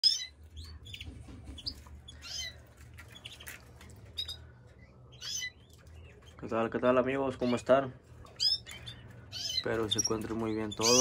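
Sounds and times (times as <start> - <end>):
canaries chirping: 0.0 - 11.0
low steady hum: 0.1 - 10.9.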